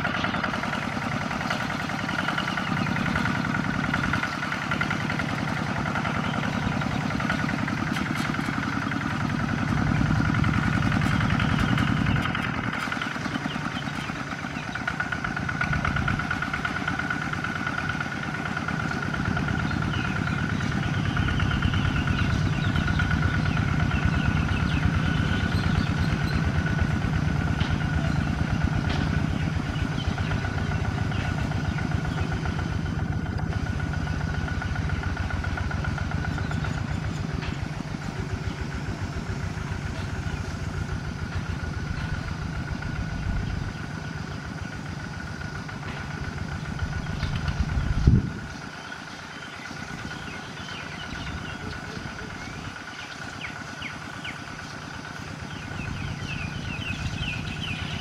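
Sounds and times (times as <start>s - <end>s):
birds chirping: 0.0s - 58.0s
diesel engine chugging: 0.0s - 58.0s.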